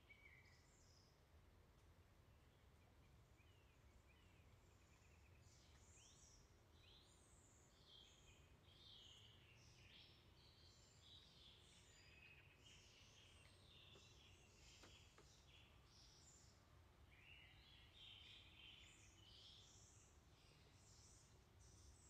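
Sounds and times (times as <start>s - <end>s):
small birds chirping: 0.0s - 1.4s, 2.2s - 22.0s.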